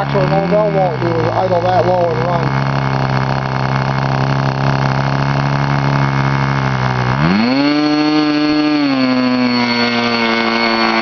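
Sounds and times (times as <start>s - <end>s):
model aircraft engine idling and revving: 0.0s - 11.0s.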